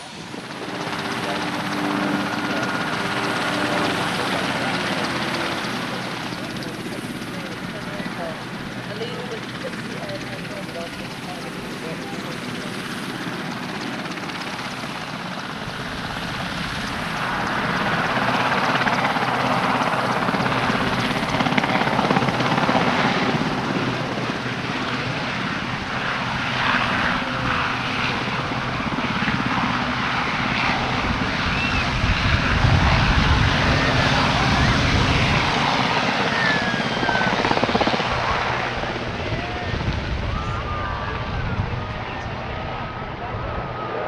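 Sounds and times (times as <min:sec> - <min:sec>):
helicopter running: 0:00.0 - 0:44.0.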